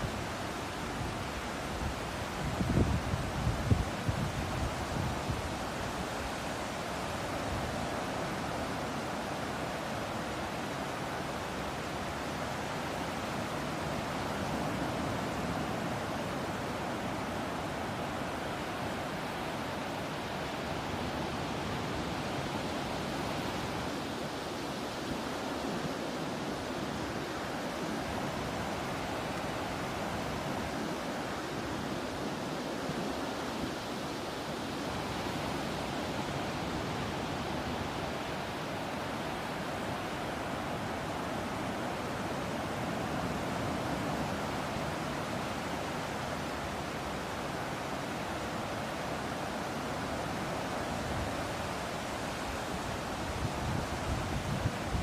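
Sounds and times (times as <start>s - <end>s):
ocean surf: 0.0s - 55.0s
sea breeze: 0.0s - 55.0s.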